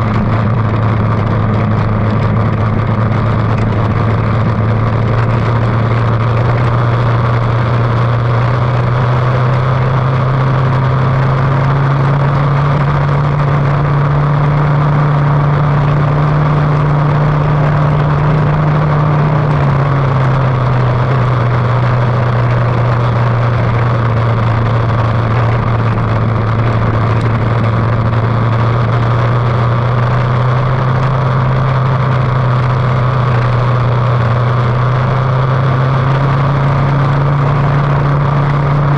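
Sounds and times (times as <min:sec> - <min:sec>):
motorcycle engine running loud: 0:00.0 - 0:38.9.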